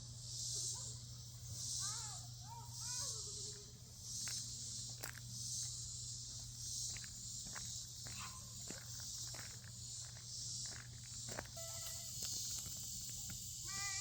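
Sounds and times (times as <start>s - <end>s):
insects buzzing shrilly: 0.0s - 14.0s.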